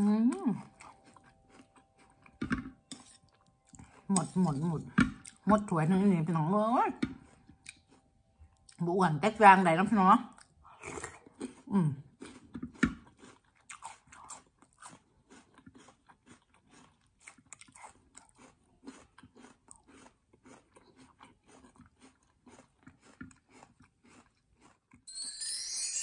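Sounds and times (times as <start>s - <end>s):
crunchy chewing: 0.2s - 5.8s, 6.9s - 8.8s, 10.3s - 25.1s.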